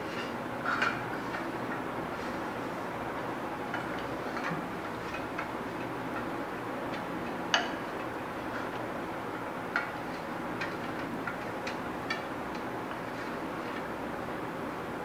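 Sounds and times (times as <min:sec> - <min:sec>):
hands mixing dough: 0:00.0 - 0:15.0.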